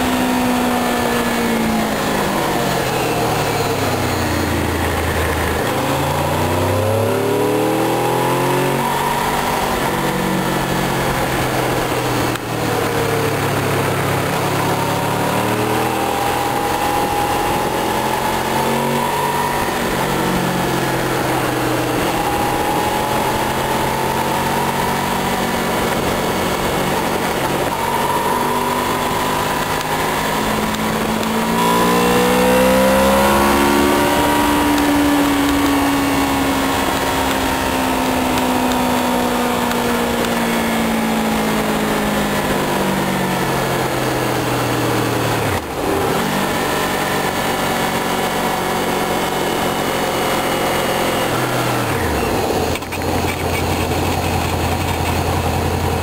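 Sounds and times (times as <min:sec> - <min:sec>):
wind noise: 0:00.0 - 0:49.6
motorcycle engine revving: 0:00.0 - 0:56.0.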